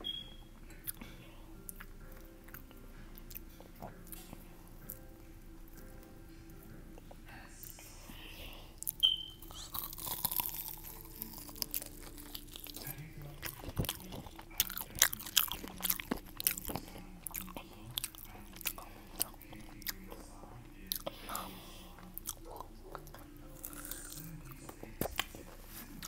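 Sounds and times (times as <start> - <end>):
person chewing crunchy food: 0.8 - 5.0, 8.8 - 26.0.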